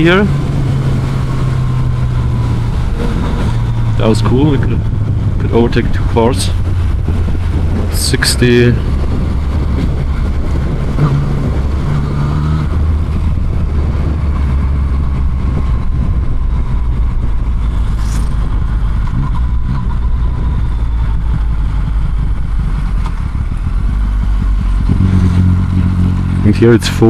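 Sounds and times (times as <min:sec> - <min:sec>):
motorcycle engine: 0:00.0 - 0:27.0
road and wind noise: 0:00.0 - 0:27.0.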